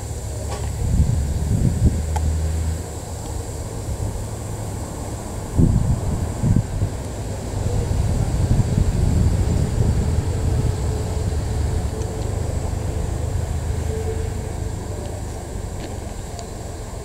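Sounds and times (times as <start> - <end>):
steam locomotive rumbling: 0.0 - 17.0.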